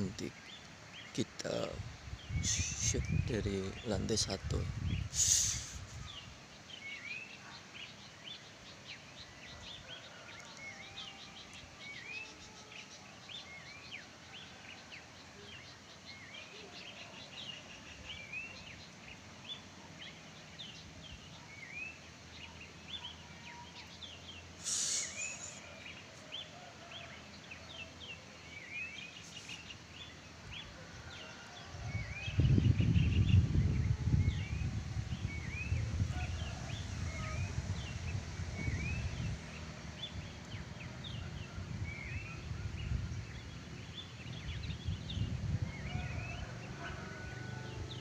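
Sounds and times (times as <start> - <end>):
faint outdoor hiss: 0.0 - 48.0
wild birds chirping: 0.0 - 48.0.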